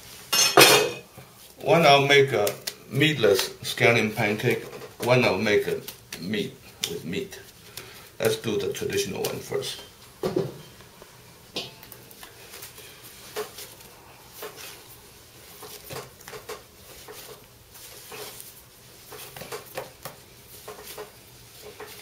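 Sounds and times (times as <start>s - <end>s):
hands kneading dough on wood: 1.2s - 10.2s, 11.8s - 22.0s.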